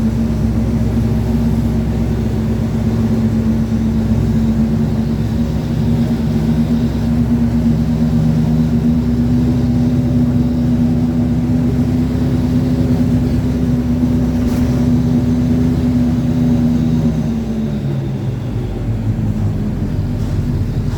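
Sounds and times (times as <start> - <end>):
bus diesel engine running: 0.0 - 20.9.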